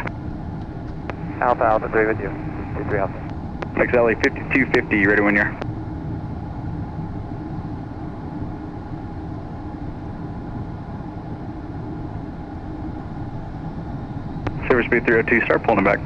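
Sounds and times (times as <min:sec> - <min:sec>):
faint steady tones: 0:00.0 - 0:16.0
jet cockpit rumble and hum: 0:00.0 - 0:16.0.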